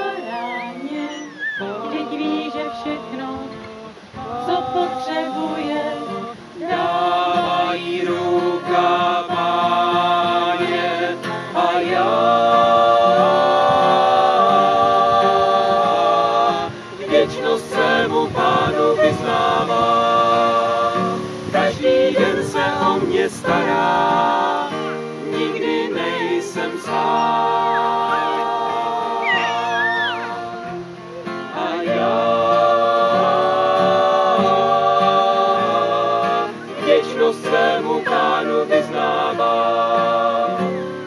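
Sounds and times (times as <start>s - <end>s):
group of people singing: 0.0s - 41.0s
strummed acoustic guitar: 1.6s - 41.0s.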